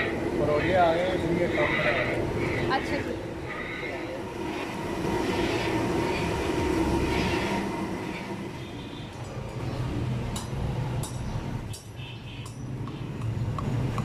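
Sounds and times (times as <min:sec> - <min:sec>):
gas burner roaring: 0:00.0 - 0:14.0.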